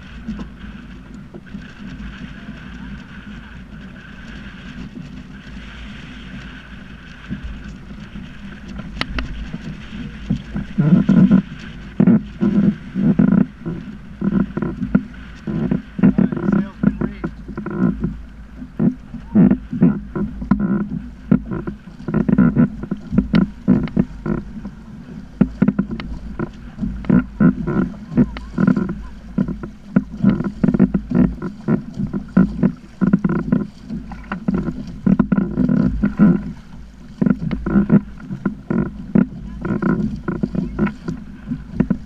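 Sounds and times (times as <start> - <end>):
water slapping against plastic hull: 0.0 - 42.0
wind rumble on microphone: 0.0 - 42.0.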